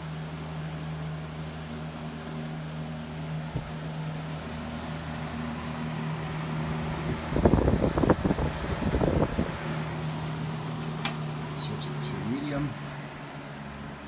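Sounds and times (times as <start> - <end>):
fan motor humming: 0.0 - 14.0.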